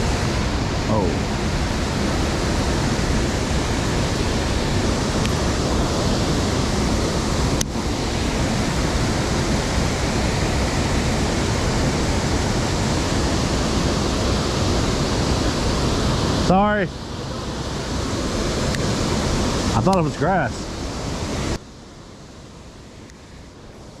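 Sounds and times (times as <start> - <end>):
waterfall rushing: 0.0 - 21.6.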